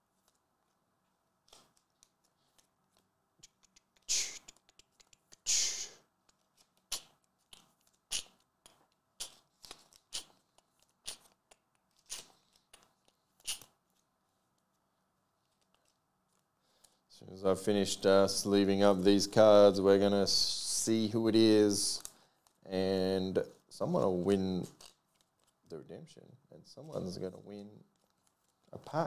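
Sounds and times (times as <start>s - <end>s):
plastic sleeves rustling: 0.0s - 5.4s, 6.1s - 17.1s, 20.4s - 22.8s, 23.4s - 25.9s, 26.8s - 29.0s.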